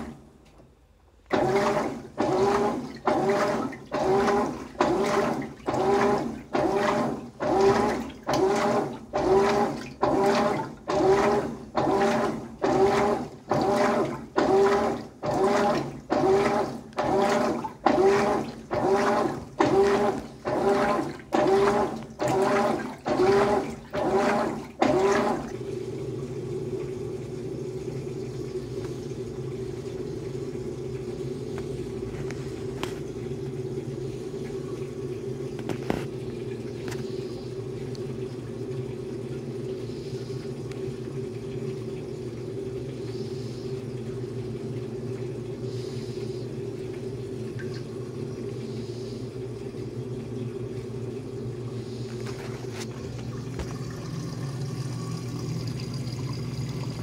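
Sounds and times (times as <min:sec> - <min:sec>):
steady motor hum: 0:00.0 - 0:57.0
washer motor whine: 0:00.0 - 0:57.0
water swishing: 0:01.3 - 0:57.0.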